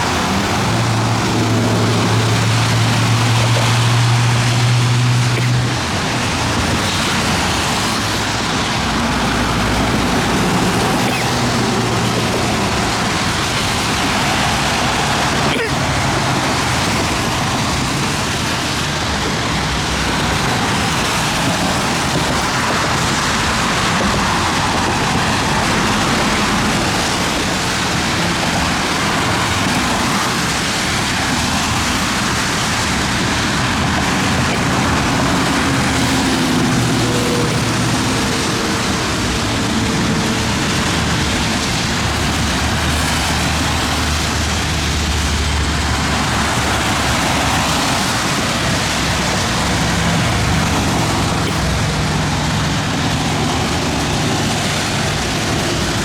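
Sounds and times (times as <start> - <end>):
gusty wind: 0.0 - 56.0
heavy rain: 0.0 - 56.0.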